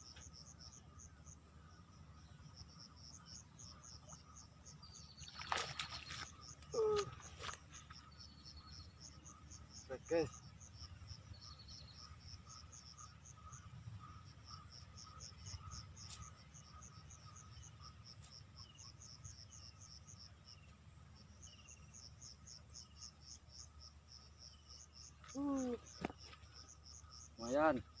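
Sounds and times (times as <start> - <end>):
insects chirping in high pulses: 0.0 - 28.0.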